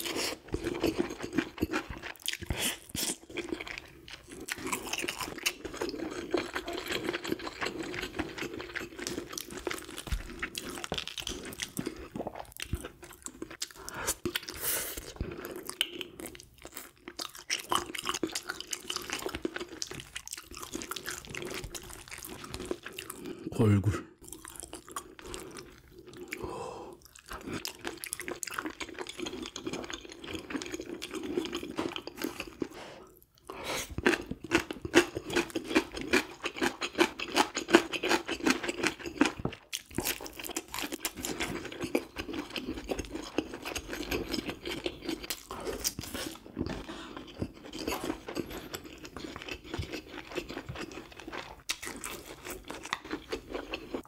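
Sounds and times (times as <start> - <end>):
chewing and crunching fish: 0.0 - 23.4, 24.2 - 54.0.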